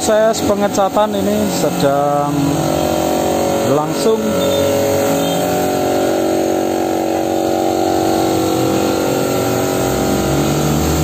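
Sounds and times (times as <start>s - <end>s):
air compressor humming: 0.0s - 11.0s
spray gun hissing: 0.0s - 11.0s.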